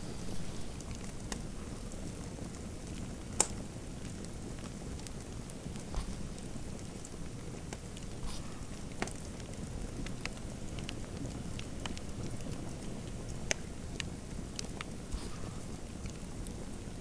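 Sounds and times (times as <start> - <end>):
fire pops and snaps: 0.0 - 17.0
fireplace fire crackling: 0.0 - 17.0.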